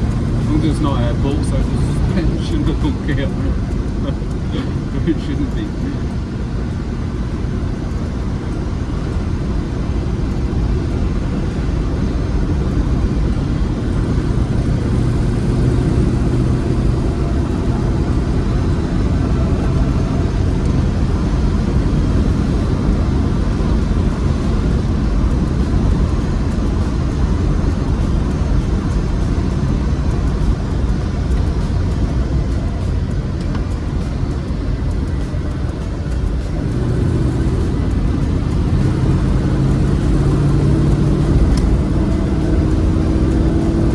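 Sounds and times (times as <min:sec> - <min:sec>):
car engine drone: 0:00.0 - 0:43.9
road noise: 0:00.0 - 0:43.9.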